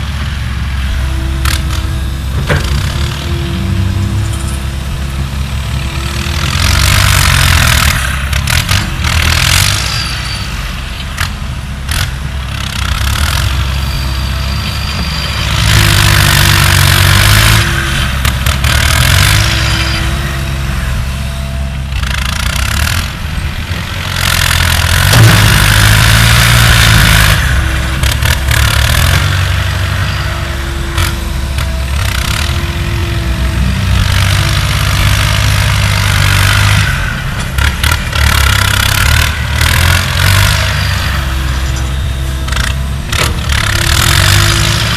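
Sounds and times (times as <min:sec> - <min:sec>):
diesel engine surging under load: 0:00.0 - 0:44.9.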